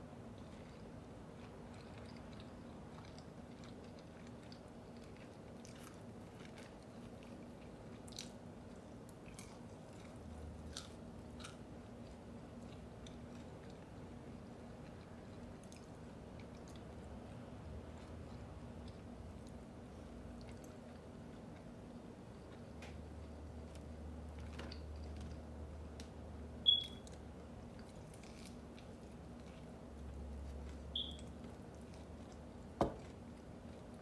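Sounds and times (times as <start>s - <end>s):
chewing and crunching food: 0.0s - 34.0s
faint steady hum: 0.0s - 34.0s.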